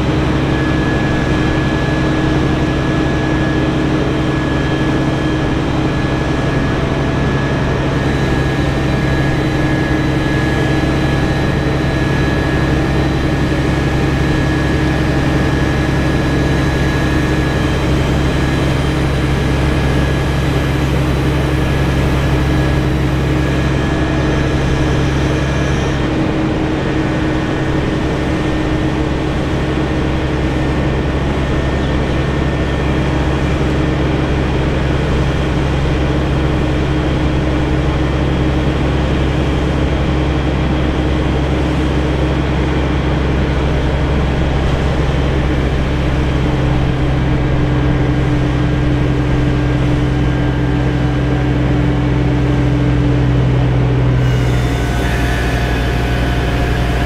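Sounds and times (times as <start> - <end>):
heavy engine droning: 0.0 - 57.0.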